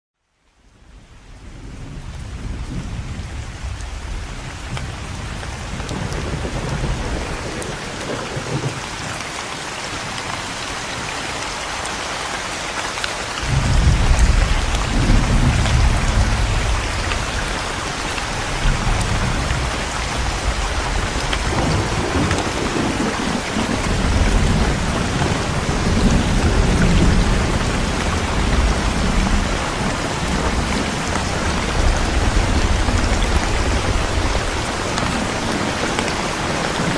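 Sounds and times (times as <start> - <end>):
heavy rain pouring: 0.3 - 36.9
thunder rumbling: 0.9 - 9.3, 13.4 - 36.9.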